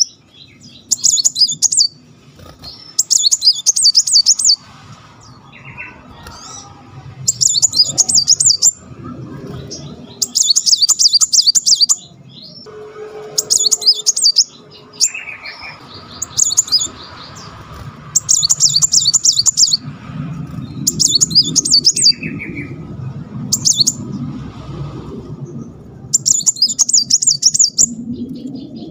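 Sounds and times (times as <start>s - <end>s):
bird singing high rolling trills: 0.0s - 28.9s.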